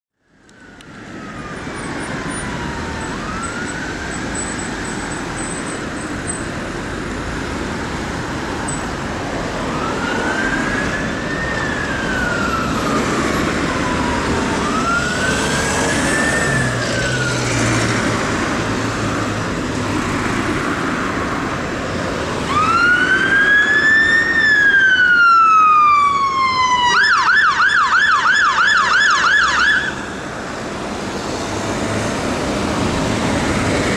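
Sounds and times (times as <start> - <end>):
fire engine siren: 0.2 - 6.1, 8.2 - 33.9
road traffic hum: 0.2 - 33.9.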